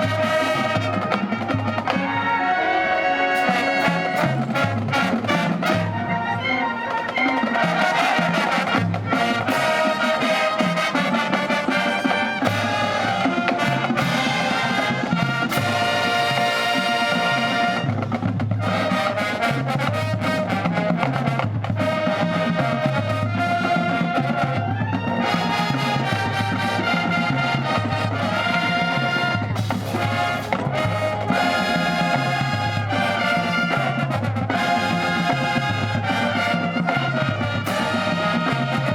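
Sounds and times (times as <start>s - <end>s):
marching band playing: 0.0s - 38.9s.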